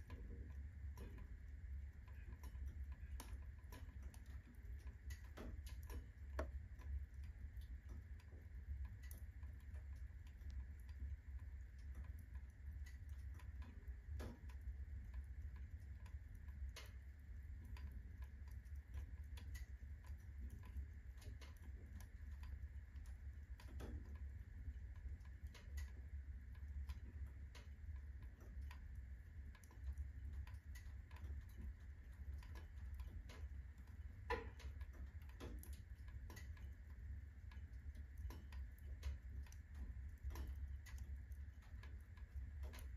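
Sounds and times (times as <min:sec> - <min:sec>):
low steady fire rumble: 0:00.0 - 0:42.9
wood fire crackling and popping: 0:00.0 - 0:42.9.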